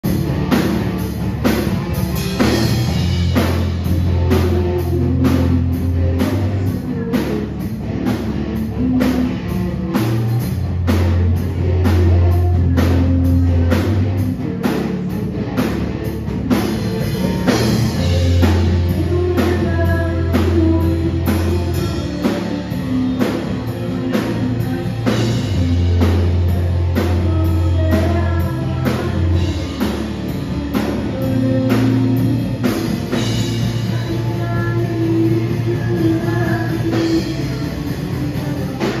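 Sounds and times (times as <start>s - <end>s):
bass guitar low notes: 0.0s - 39.0s
drum kit beat: 0.0s - 39.0s
electric guitar: 0.0s - 39.0s
woman singing: 3.4s - 39.0s.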